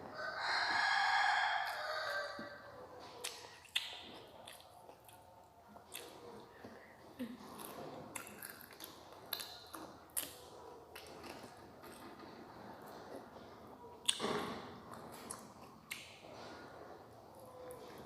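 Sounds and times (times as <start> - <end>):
crunchy chewing: 0.5 - 18.0.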